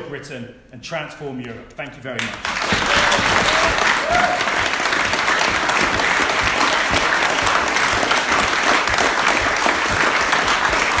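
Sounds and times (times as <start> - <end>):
crowd applauding: 2.2 - 11.0.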